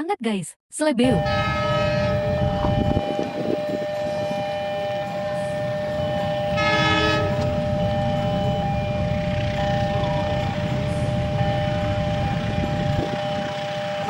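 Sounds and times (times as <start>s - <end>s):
train running fast: 1.0s - 14.0s
train horn blast: 1.1s - 14.0s.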